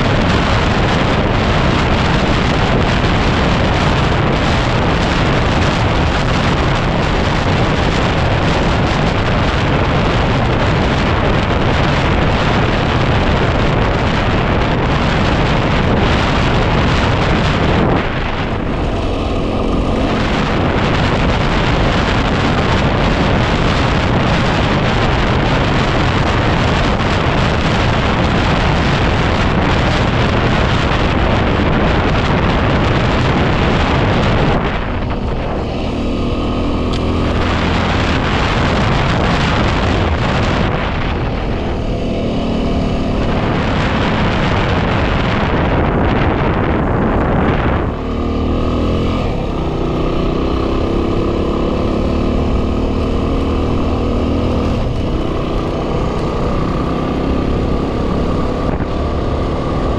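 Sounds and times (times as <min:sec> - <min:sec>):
dirt bike engine: 0:00.0 - 0:59.9
wind buffeting microphone: 0:00.0 - 0:59.9.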